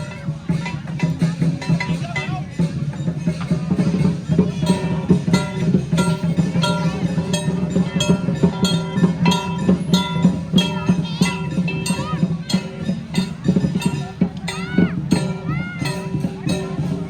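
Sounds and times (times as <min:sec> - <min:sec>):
drum beating: 0:00.0 - 0:17.0.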